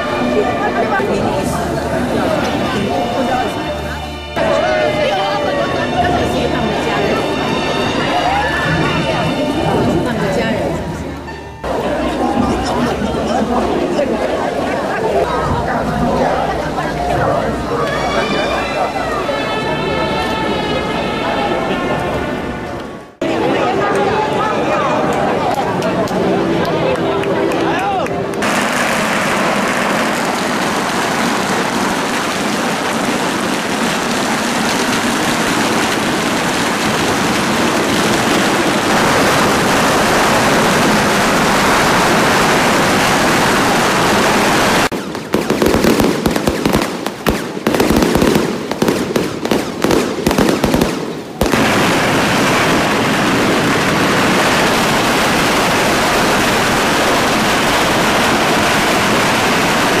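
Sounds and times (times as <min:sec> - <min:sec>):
firecrackers crackling and banging: 0:00.0 - 0:19.4, 0:28.3 - 1:00.0.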